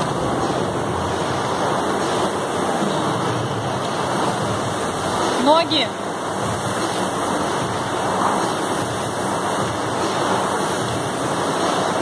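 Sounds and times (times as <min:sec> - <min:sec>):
rowing machine fan whooshing: 0:00.0 - 0:12.0.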